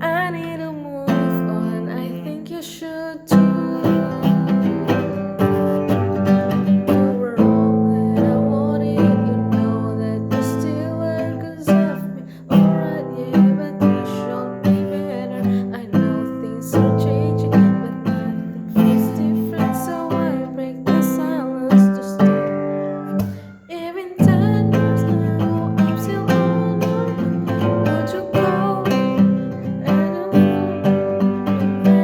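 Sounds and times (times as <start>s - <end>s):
acoustic guitar strumming: 0.0s - 32.0s
person singing: 0.0s - 32.0s.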